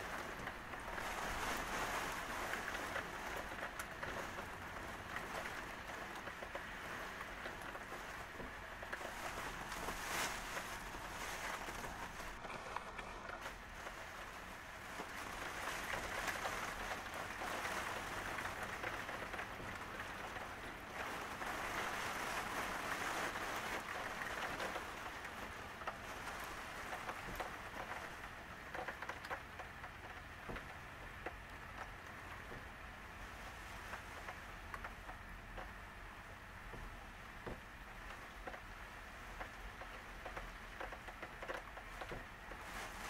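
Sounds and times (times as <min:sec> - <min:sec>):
rain hissing: 0:00.0 - 0:43.0
raindrops pattering: 0:00.0 - 0:43.0.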